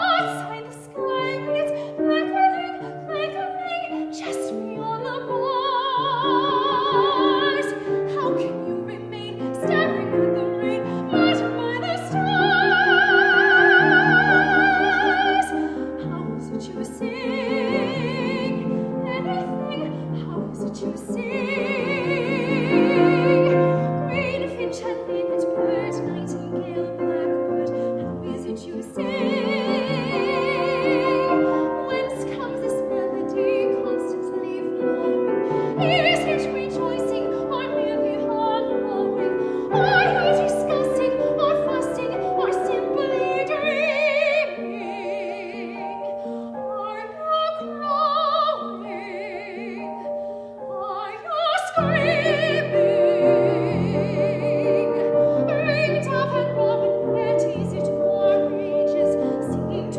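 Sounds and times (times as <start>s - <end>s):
piano accompaniment: 0.0s - 59.9s
soprano singing operatically: 0.0s - 59.9s.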